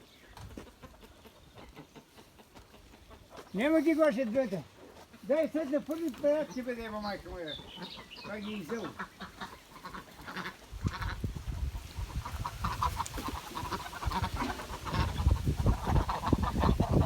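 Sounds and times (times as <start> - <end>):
birds shuffling and rumbling: 0.0 - 17.0
ducks calling: 0.0 - 17.0.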